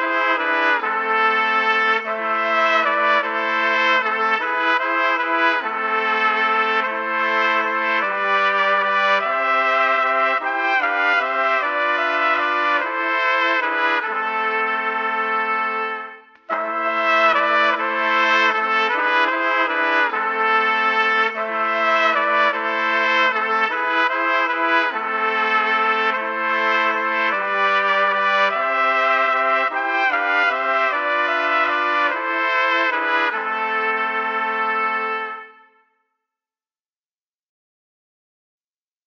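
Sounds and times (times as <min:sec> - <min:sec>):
trumpets playing in harmony: 0:00.0 - 0:35.9.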